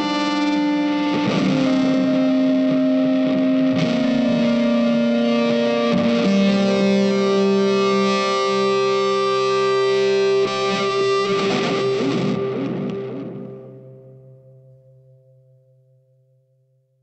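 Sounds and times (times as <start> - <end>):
distorted electric guitar: 0.0 - 15.3.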